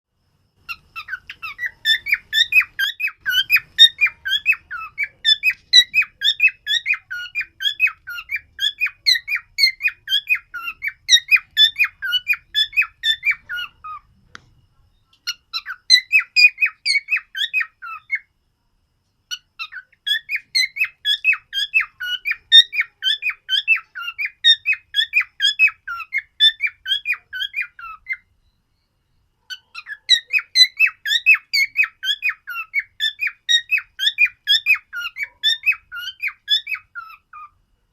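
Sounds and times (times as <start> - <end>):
cockatiel chirping: 0.6 - 14.5, 15.1 - 18.3, 19.3 - 28.6, 29.4 - 37.6.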